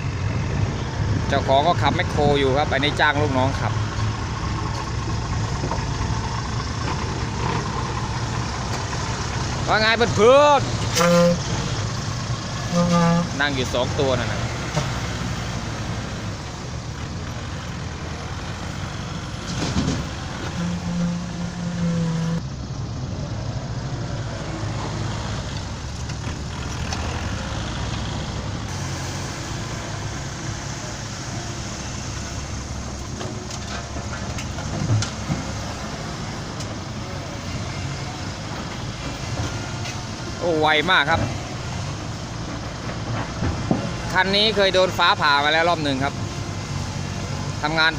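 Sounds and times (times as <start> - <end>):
dump truck diesel engine running: 0.0 - 47.9.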